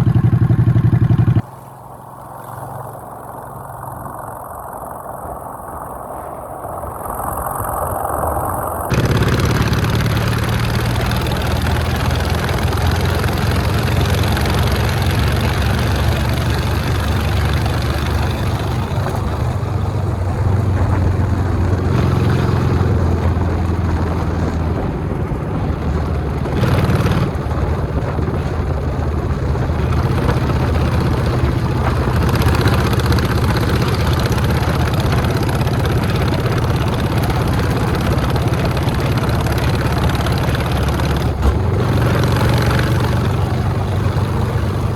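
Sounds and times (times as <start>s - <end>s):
motorcycle engine running: 0.0s - 5.6s, 8.8s - 44.9s
wind noise: 0.0s - 44.9s.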